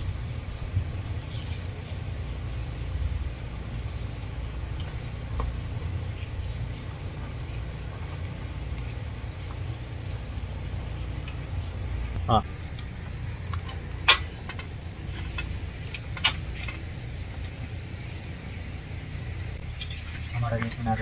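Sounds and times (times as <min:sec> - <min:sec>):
low uneven rumbling: 0:00.0 - 0:21.0.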